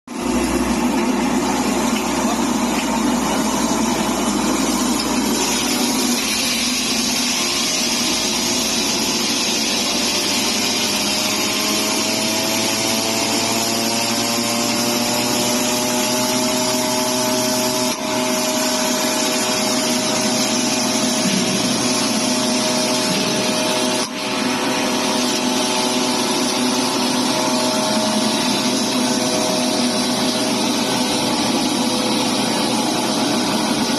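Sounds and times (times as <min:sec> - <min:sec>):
grinding machine whirring: 0:00.0 - 0:33.9.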